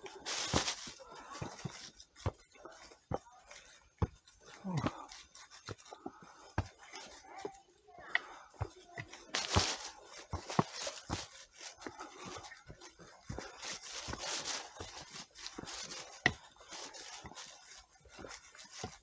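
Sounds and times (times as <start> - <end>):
footsteps on dirt and leaves: 0.0 - 19.0.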